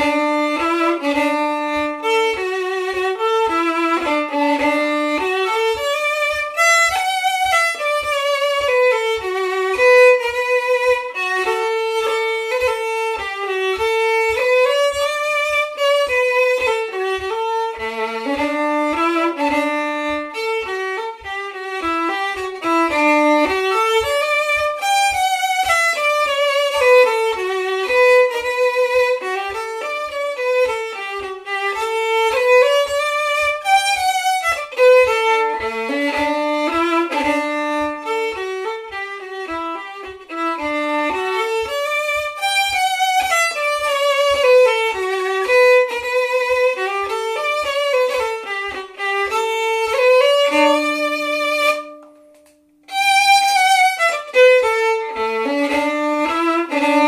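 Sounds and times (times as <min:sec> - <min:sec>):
solo fiddle playing a folk tune: 0:00.0 - 0:57.0.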